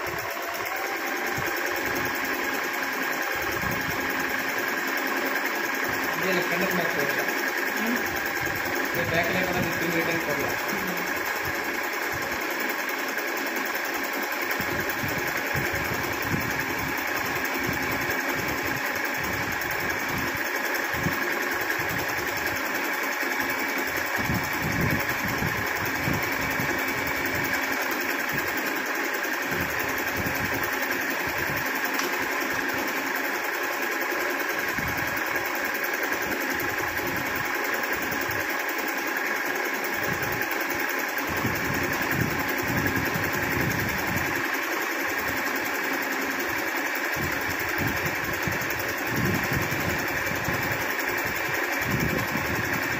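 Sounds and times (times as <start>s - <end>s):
electric sewing machine running: 0.0s - 52.9s.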